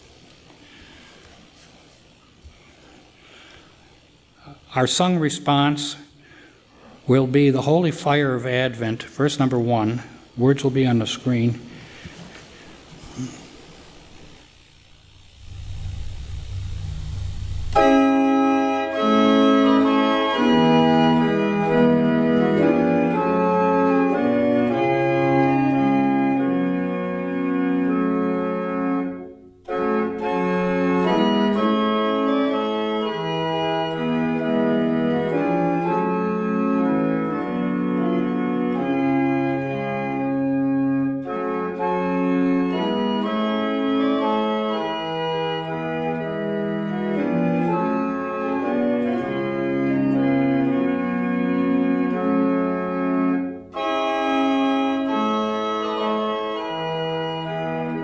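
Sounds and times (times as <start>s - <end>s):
church organ playing hymn: 0.0s - 58.0s.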